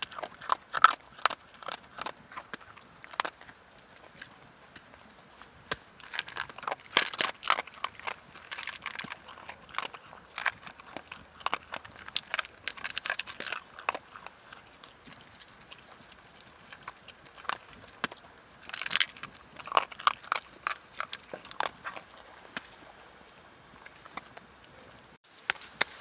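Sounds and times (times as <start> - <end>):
chewing and crunching: 0.0 - 26.0.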